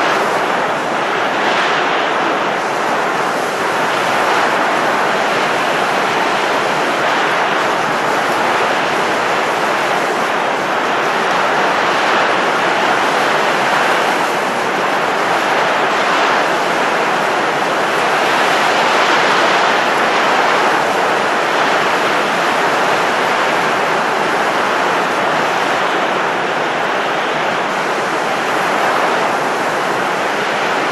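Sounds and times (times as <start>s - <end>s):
rushing blowing air: 0.0s - 30.9s.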